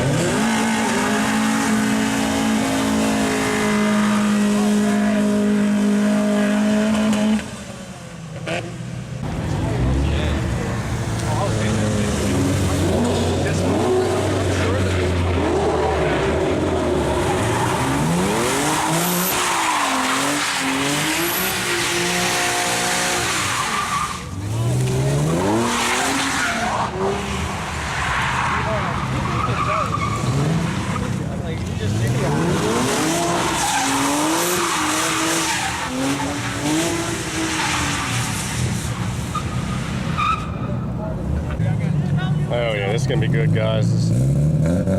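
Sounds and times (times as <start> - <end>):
tires squealing and skidding: 0.0 - 7.5, 11.4 - 41.2
car engine revving: 0.0 - 44.9.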